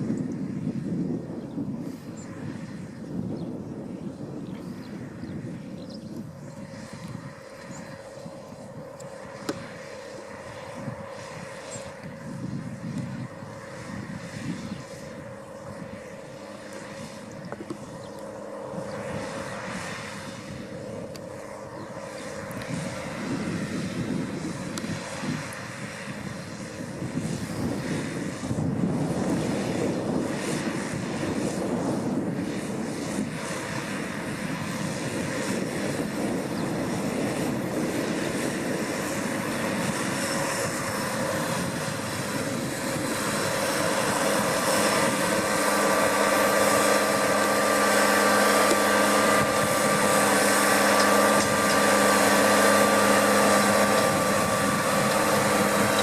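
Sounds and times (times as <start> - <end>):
multi-tone whine: 0.0 - 56.0
tractor diesel engine under load: 6.6 - 56.0.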